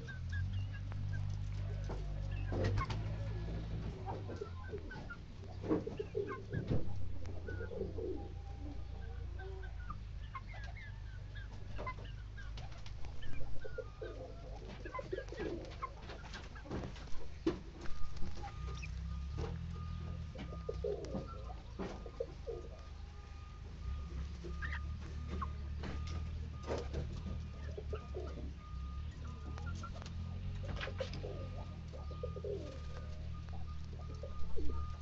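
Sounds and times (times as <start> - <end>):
birds cooing: 0.0 - 35.0.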